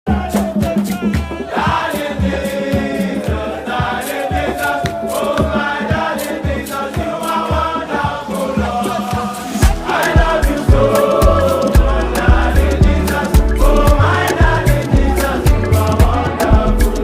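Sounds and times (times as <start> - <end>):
song with group vocals: 0.1 - 17.0.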